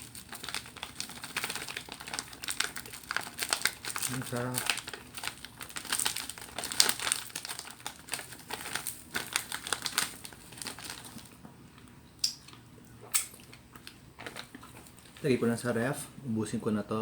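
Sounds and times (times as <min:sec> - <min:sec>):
plastic packaging crinkling: 0:00.0 - 0:11.4, 0:13.4 - 0:15.7.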